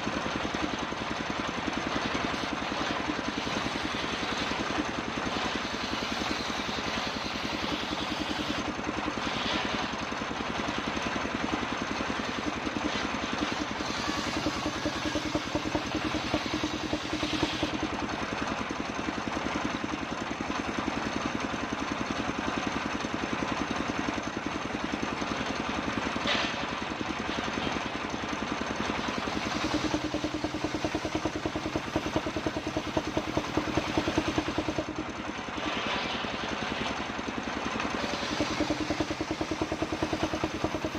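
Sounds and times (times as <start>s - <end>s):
sawmill engine chattering: 0.0s - 40.9s.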